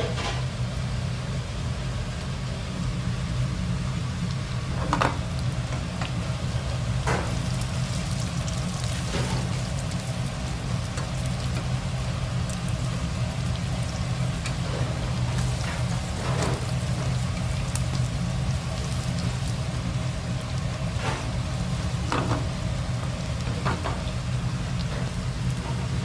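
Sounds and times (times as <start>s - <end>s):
steady low hum: 0.0s - 26.0s
food sizzling in hot oil: 0.1s - 26.0s.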